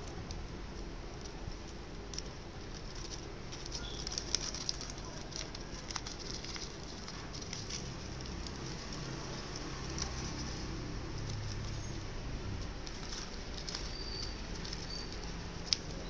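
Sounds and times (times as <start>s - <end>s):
paper crinkling and rustling: 0.0s - 16.0s.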